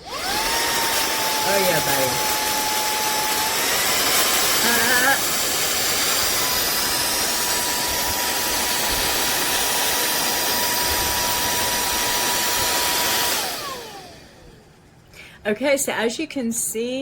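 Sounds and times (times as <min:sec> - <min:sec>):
handheld vacuum blowing air: 0:00.0 - 0:14.6
motor spinning down: 0:00.0 - 0:14.6.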